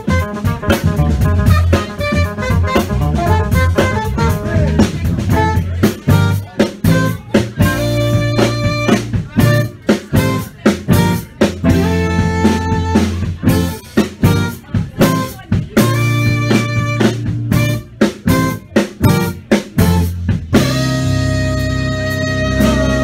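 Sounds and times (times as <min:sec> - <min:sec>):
drum hits: 0:00.0 - 0:21.6
live funk band: 0:00.0 - 0:23.0.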